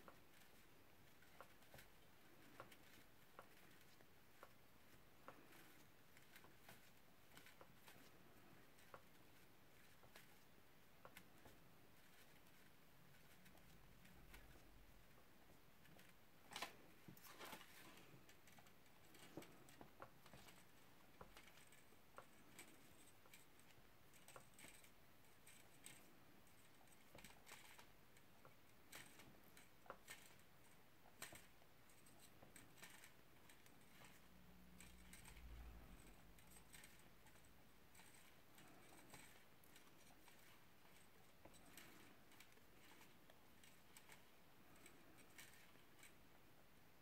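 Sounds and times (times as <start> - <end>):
wire clicking and scratching: 0.0 - 47.0.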